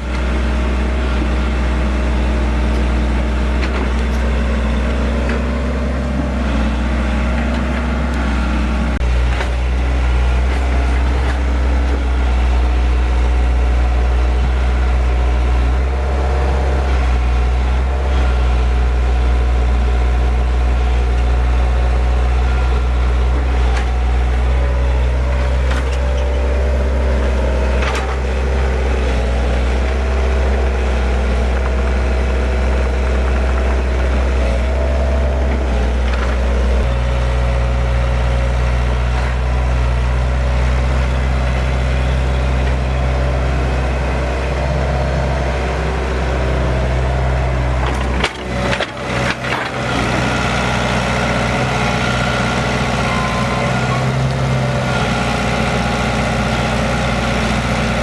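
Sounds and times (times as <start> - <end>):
excavator diesel engine idling: 0.0 - 58.0.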